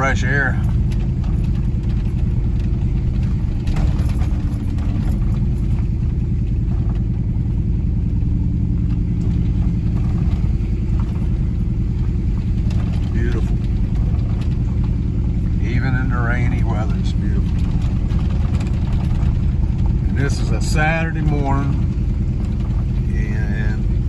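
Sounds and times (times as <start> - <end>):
road noise: 0.0 - 24.0
truck engine under load: 0.0 - 24.0.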